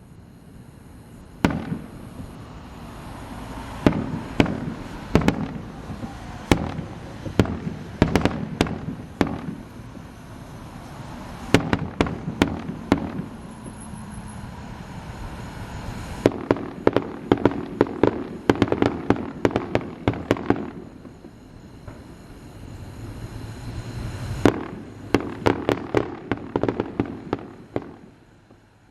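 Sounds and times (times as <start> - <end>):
fireworks bangs and crackles: 1.4 - 28.7.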